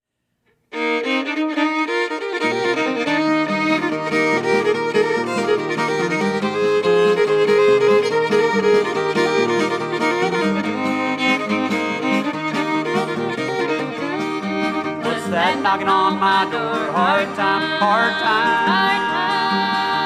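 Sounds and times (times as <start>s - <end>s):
fiddle playing: 0.7s - 20.0s.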